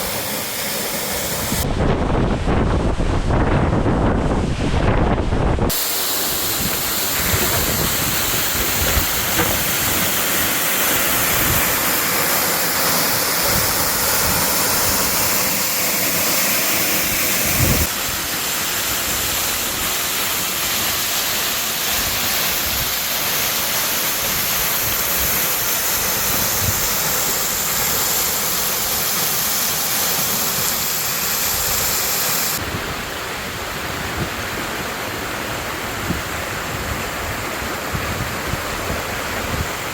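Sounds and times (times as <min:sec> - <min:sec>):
waterfall rushing: 0:00.0 - 0:01.7, 0:05.7 - 0:39.9.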